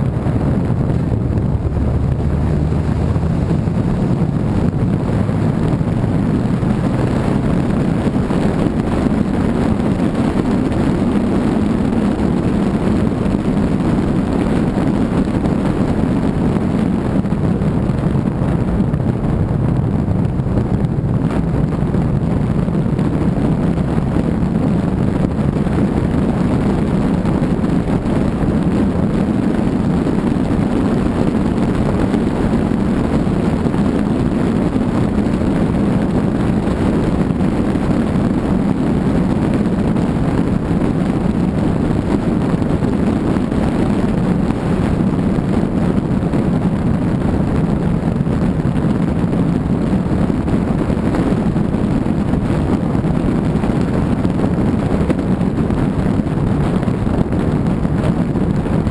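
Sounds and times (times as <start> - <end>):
car driving rumble: 0.0 - 58.9
wind on microphone: 0.0 - 58.9.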